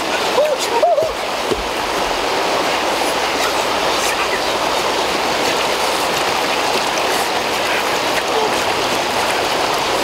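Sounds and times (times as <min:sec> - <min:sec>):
river rushing over rapids: 0:00.0 - 0:10.0.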